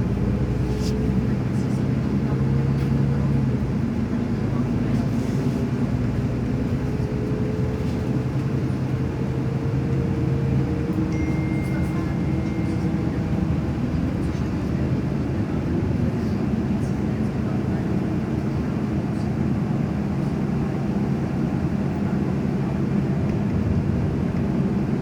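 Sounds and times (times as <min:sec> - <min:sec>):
vehicle rumble: 0:00.0 - 0:25.0.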